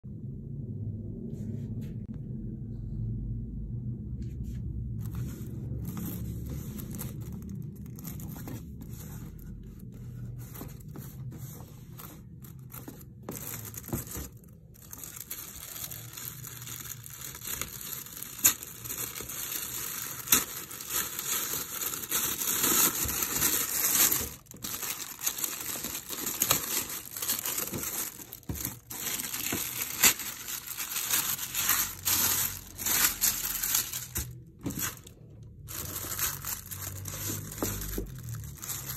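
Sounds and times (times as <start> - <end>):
wrapping crinkling and tearing: 5.0 - 38.9.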